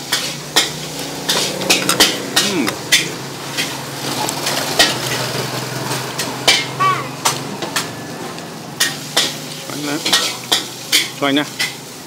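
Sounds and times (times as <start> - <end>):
metal cookware clanking: 0.0 - 8.0, 8.8 - 11.8.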